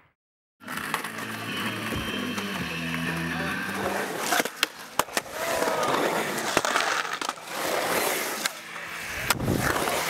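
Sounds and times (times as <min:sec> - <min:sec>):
skateboard wheels rolling on concrete: 0:00.6 - 0:10.0.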